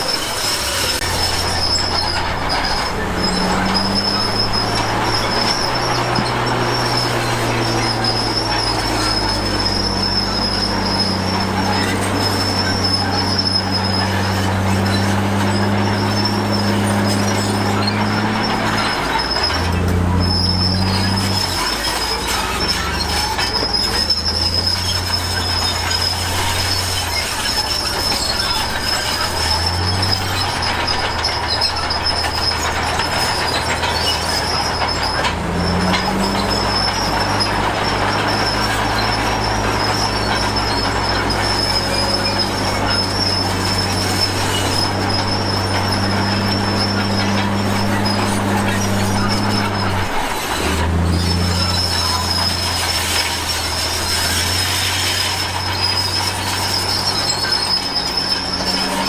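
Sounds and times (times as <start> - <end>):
diesel engine under load: 0.0 - 59.0
steel tracks squealing: 0.0 - 59.0.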